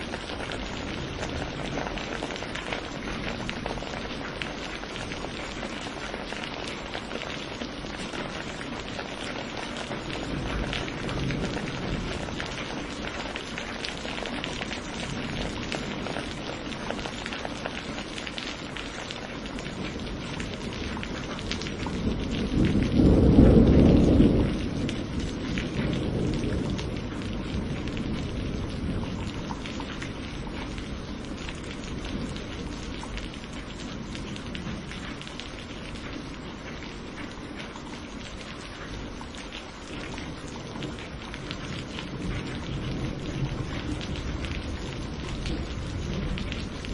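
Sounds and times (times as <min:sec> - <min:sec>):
thunder rumbling: 0:00.0 - 0:18.0, 0:19.6 - 0:37.2, 0:39.9 - 0:46.9
steady rain: 0:00.0 - 0:46.9.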